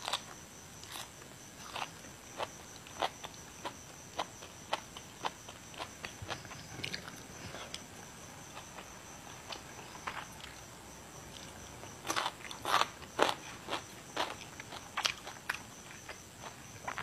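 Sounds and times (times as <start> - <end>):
chewing crisp vegetables: 0.0 - 10.7, 11.3 - 17.0.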